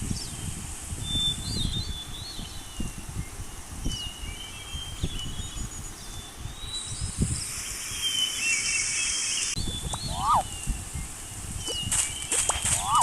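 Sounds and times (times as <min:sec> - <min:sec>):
birds chirping and whistling: 0:00.0 - 0:13.0
high hiss: 0:00.0 - 0:13.0.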